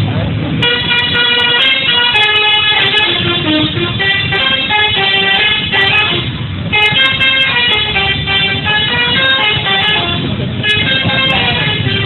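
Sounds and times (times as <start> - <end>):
bus multi-tone musical horn: 0.6 - 12.0.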